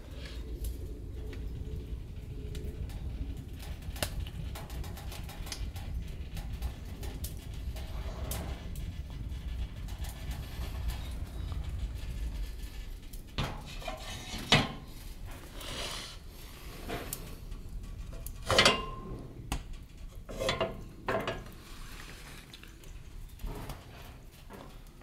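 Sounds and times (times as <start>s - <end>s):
metal stove clanks and scrapes: 3.6s - 24.9s.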